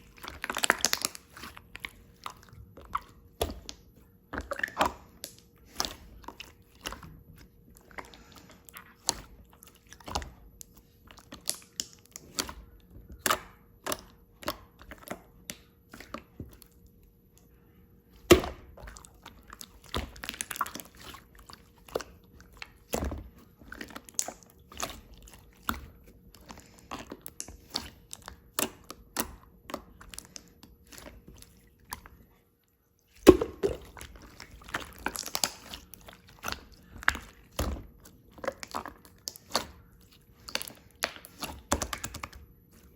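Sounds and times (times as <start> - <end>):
crunching and chewing: 0.0 - 42.9.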